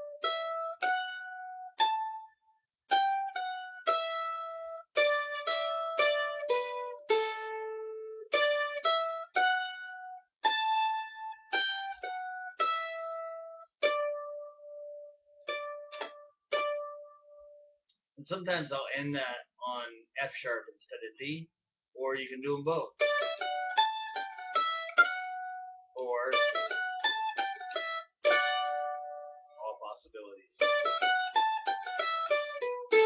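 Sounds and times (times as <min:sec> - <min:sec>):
solo mandolin melody: 0:00.0 - 0:17.8, 0:22.7 - 0:33.0.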